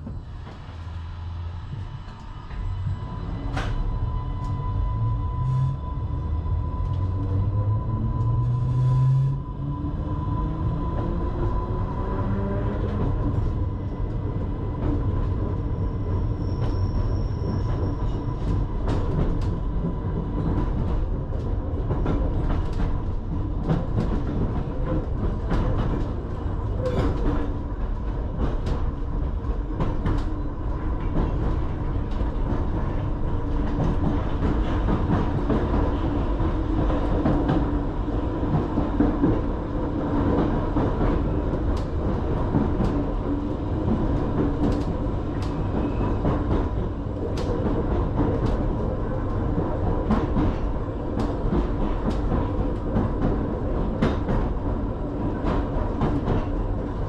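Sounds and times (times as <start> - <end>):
train interior rumble: 0.0 - 57.0.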